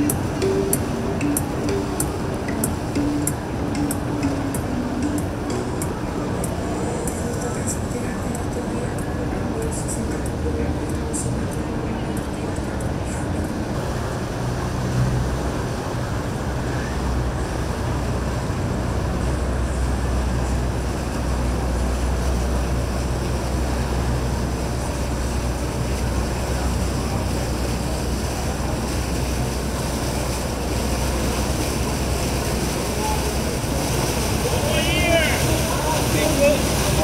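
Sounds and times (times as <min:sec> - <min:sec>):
bow wake washing: 0:00.0 - 0:37.0
motorboat engine humming: 0:00.0 - 0:37.0.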